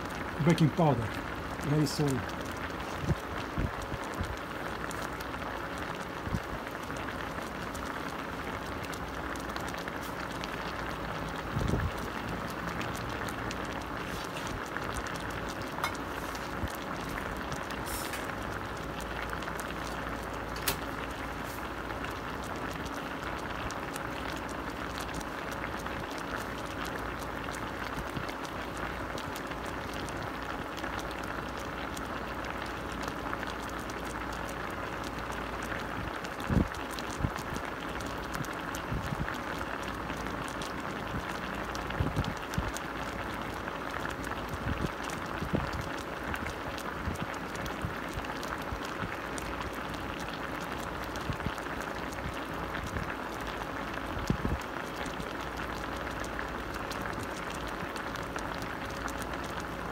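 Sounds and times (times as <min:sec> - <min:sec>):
sauce bubbling in pot: 0:00.0 - 0:59.9.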